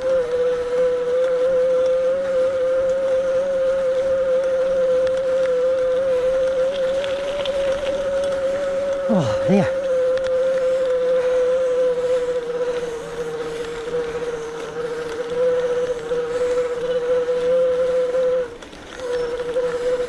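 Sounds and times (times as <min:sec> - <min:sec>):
electric bike motor whining: 0:00.0 - 0:20.0.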